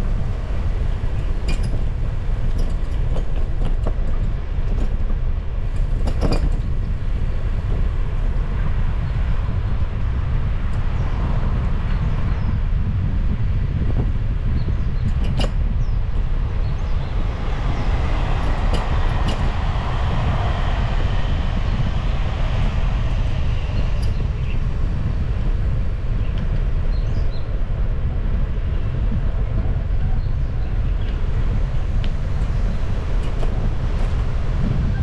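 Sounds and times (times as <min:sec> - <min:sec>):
bicycle tyres rolling on asphalt: 0:00.0 - 0:35.0
wind rumble on microphone: 0:00.0 - 0:35.0.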